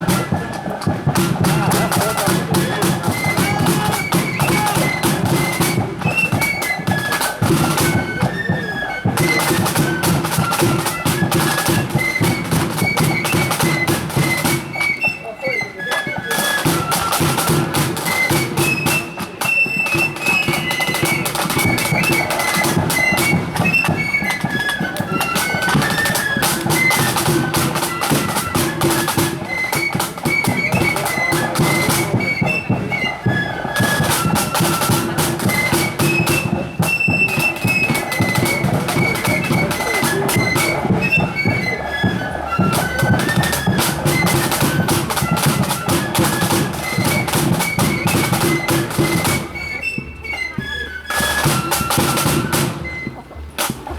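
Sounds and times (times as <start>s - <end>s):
drums beating time: 0.0s - 53.9s.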